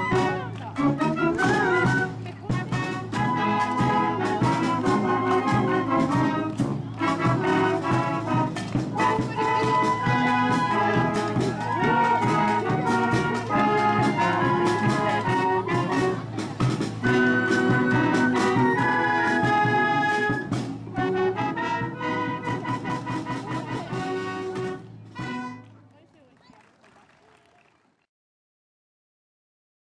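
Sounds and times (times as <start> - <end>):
trumpets and trombones chords: 0.0 - 25.7.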